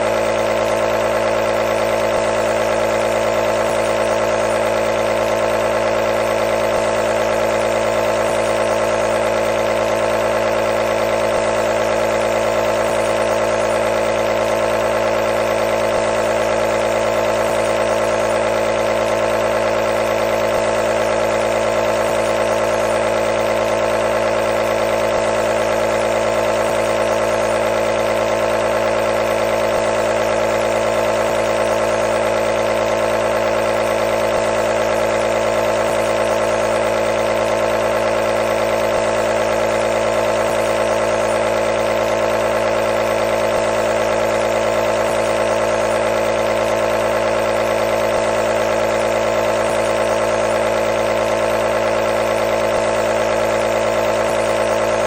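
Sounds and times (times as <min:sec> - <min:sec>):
nebulizer compressor humming: 0:00.0 - 0:55.0.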